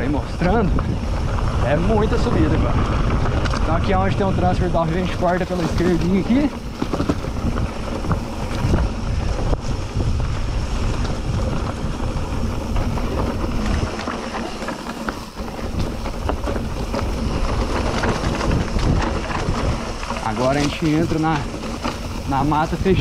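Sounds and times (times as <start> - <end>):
bike clattering over ground: 0.0 - 23.0
bike tyres rolling on dirt: 0.0 - 23.0
wind rushing over microphone: 0.0 - 23.0.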